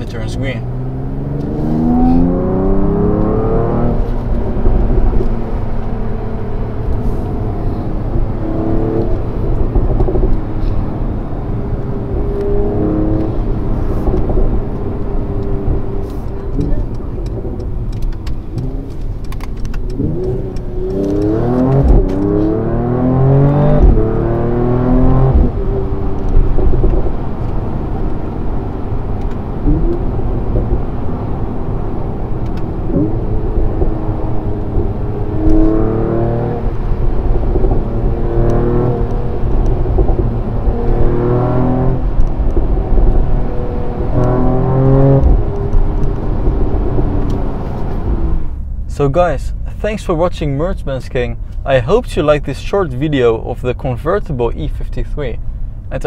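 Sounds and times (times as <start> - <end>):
car engine accelerating through gears: 0.0 - 52.8
road rumble: 0.0 - 56.0.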